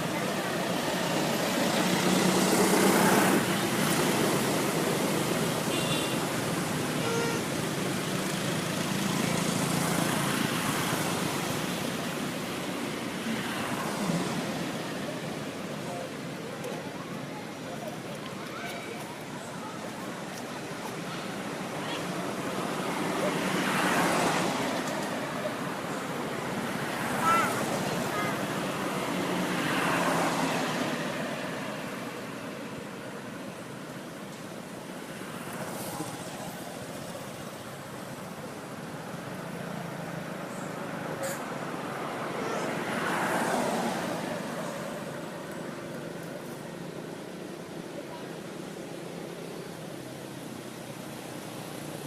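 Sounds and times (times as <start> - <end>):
background traffic noise: 0.0 - 52.0
vehicles passing on road: 0.0 - 52.0.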